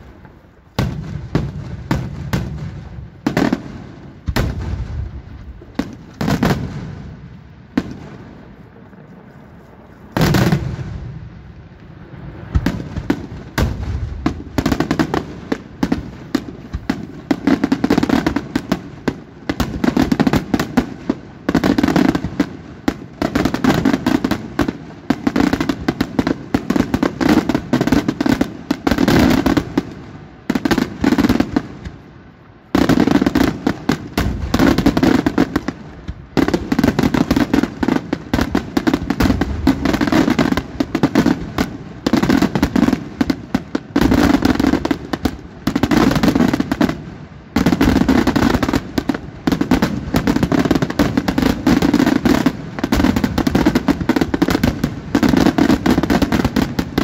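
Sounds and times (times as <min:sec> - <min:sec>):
fireworks bursts and bangs: 0:00.0 - 0:57.0.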